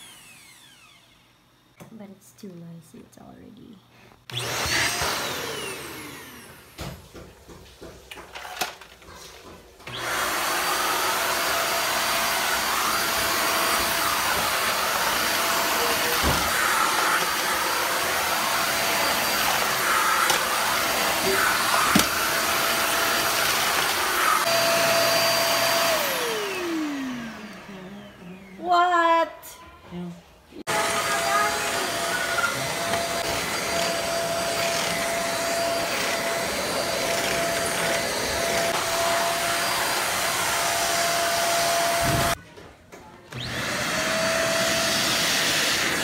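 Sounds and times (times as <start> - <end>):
vacuum cleaner whining: 0.0 - 2.0, 4.2 - 29.3, 29.9 - 42.4, 43.3 - 46.0
vacuum head on tiled floor: 4.2 - 28.5, 30.6 - 46.0.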